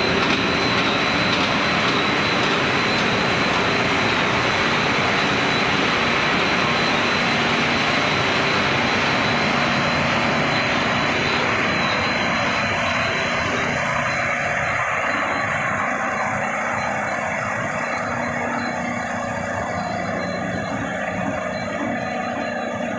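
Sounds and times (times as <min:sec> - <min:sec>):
high-pitched whine: 0:00.0 - 0:22.9
production line machine noise: 0:00.0 - 0:22.9.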